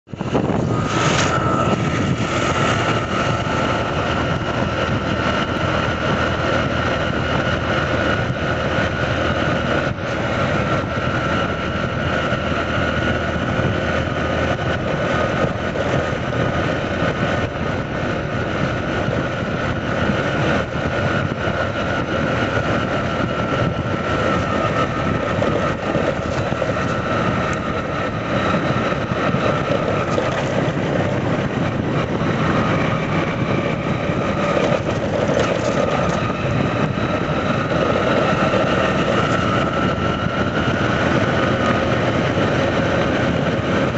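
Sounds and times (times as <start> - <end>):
road noise: 0.0 - 43.9
wind noise: 0.0 - 43.9
motorcycle riding: 0.1 - 43.9.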